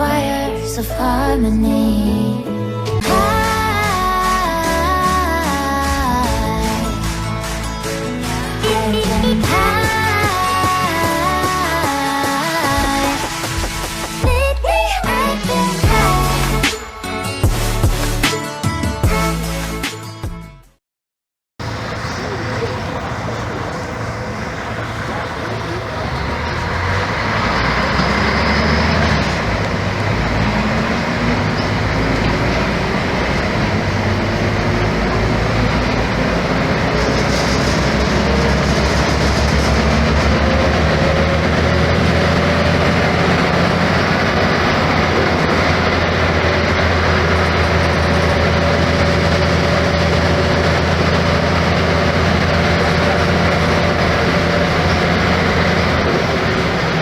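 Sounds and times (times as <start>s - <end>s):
bus diesel engine accelerating: 0.0s - 18.3s, 21.6s - 57.0s.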